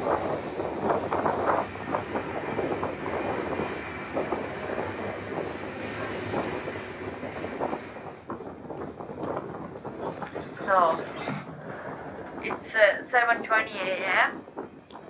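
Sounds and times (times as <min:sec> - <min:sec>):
train wagons rattling and clanking: 0:00.0 - 0:15.0.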